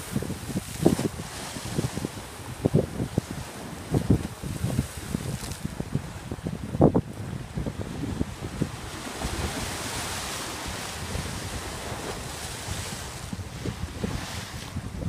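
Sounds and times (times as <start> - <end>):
waves washing against seawall: 0.0 - 15.0
wind rumbling on microphone: 0.0 - 15.0.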